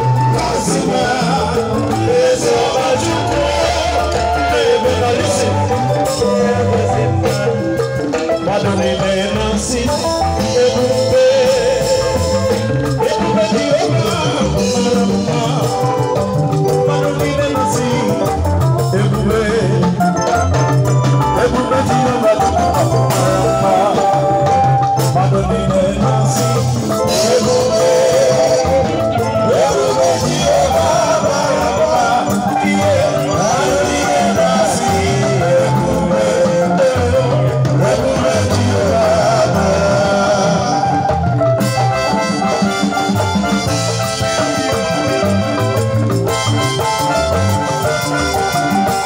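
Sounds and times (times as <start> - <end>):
drum kit: 0.0 - 49.0
electric bass: 0.0 - 49.0
lead guitar: 0.0 - 49.0
man singing into a microphone: 0.0 - 49.0.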